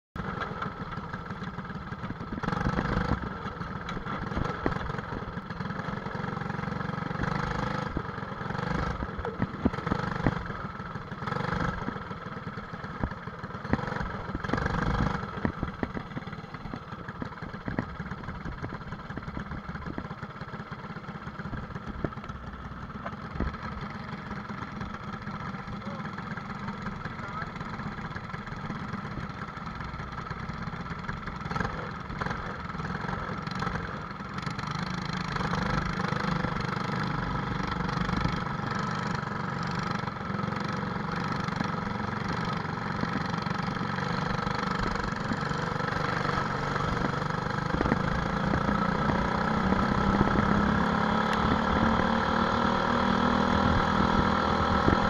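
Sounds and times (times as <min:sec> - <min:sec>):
kart engine revving: 0:00.2 - 0:55.0.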